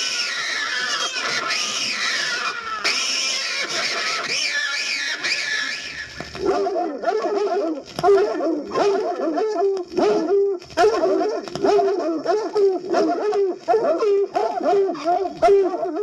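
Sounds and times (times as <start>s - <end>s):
dog yelping and whimpering: 0.0s - 16.0s.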